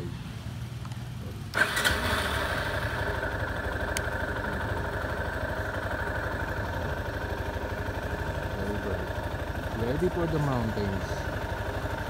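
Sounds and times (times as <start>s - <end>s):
motorcycle engine idling: 0.6s - 12.0s.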